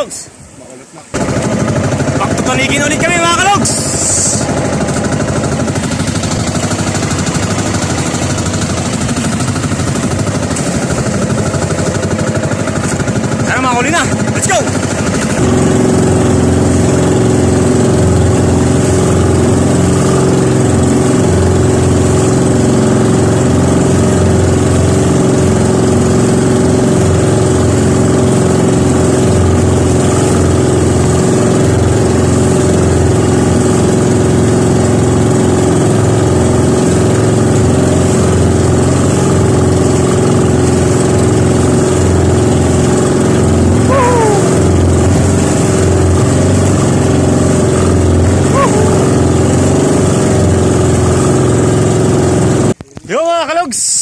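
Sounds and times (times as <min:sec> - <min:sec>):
boat engine droning: 0:00.0 - 0:52.9
water splashing off hull: 0:00.0 - 0:53.2.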